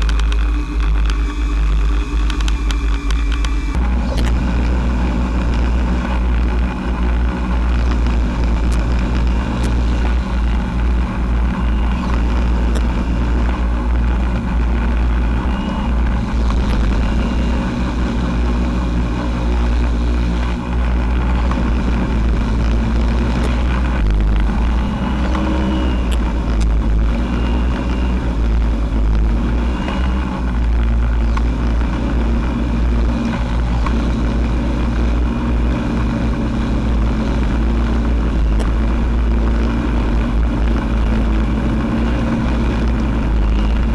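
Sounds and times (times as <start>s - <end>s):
drone motors and propellers: 0.0s - 43.9s
steady low rumble: 0.0s - 43.9s.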